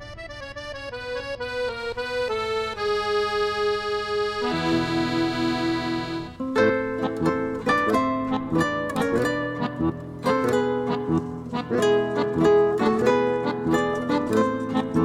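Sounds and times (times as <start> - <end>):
accordion-like instrumental music: 0.0 - 15.0.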